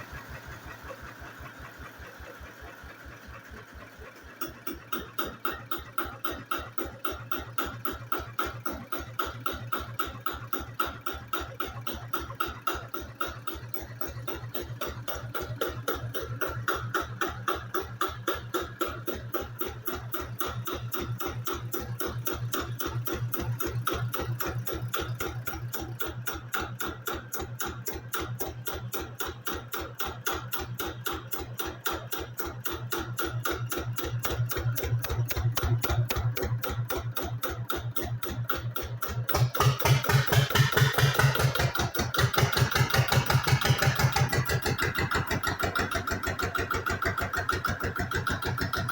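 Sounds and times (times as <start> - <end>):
engine running with slow beat: 0.0 - 48.9.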